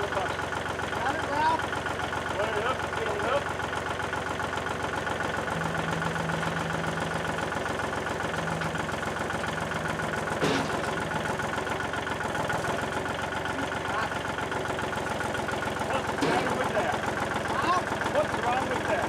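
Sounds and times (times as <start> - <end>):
loader engine idling: 0.0 - 19.0.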